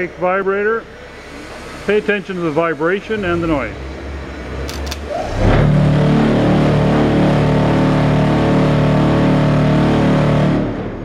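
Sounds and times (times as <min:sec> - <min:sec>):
electric vibrator humming: 0:00.0 - 0:11.0.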